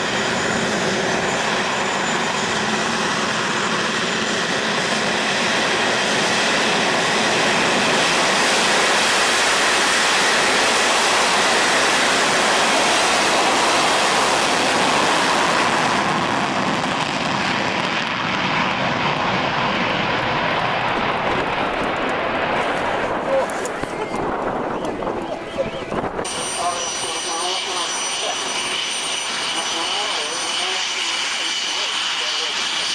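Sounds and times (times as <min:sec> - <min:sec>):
jet engine roar: 0:00.0 - 0:32.9.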